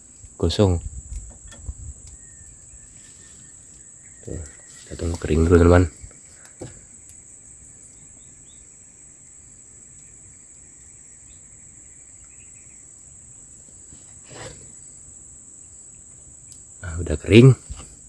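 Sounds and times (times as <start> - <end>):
insects droning high-pitched: 0.0 - 18.0.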